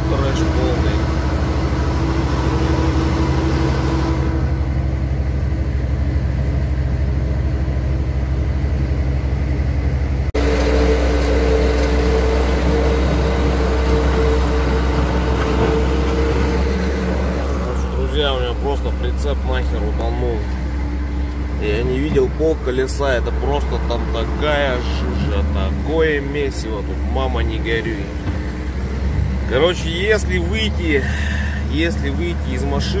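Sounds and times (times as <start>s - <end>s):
steady higher tones: 0.0s - 6.4s, 10.3s - 33.0s
diesel truck engine in mud: 0.0s - 33.0s.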